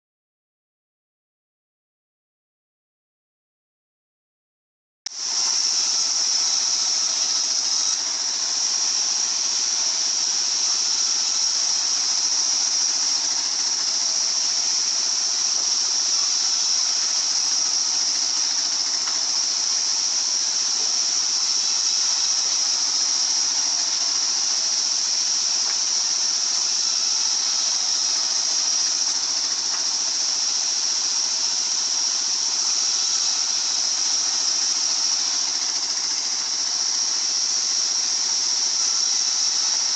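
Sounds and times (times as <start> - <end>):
circular saw whining: 5.1 - 39.9.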